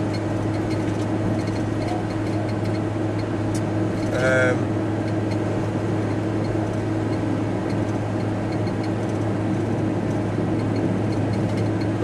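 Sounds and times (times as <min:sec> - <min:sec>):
van engine and road drone: 0:00.0 - 0:12.0.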